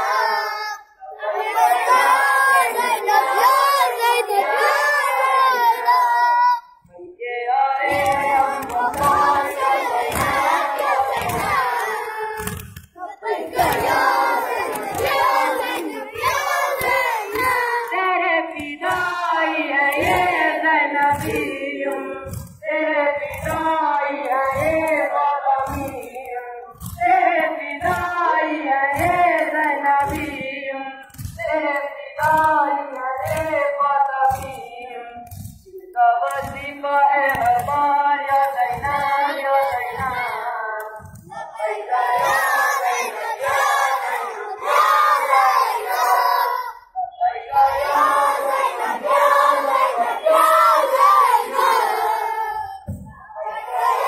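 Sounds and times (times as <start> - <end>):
children chanting in unison: 0.0 - 6.8, 7.8 - 30.6, 37.3 - 54.0.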